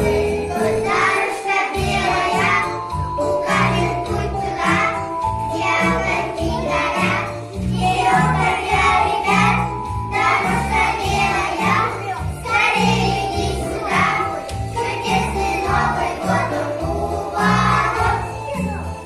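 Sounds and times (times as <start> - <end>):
children singing: 0.0 - 18.5.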